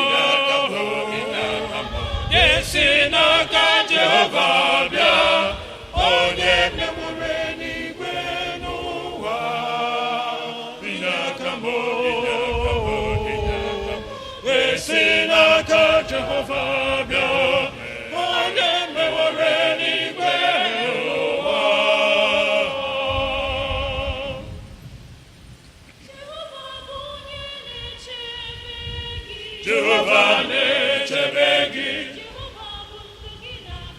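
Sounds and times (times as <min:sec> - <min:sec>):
church choir singing: 0:00.0 - 0:24.7, 0:26.2 - 0:33.9.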